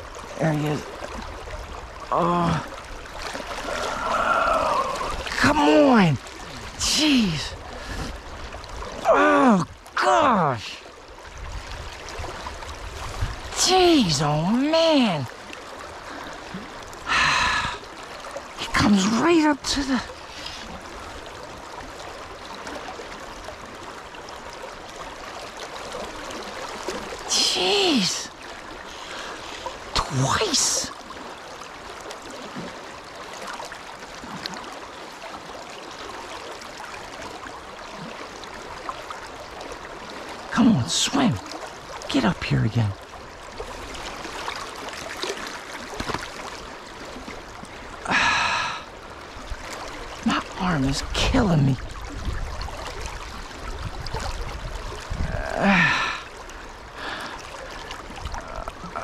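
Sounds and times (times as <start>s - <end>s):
river current rushing: 0.0s - 59.0s.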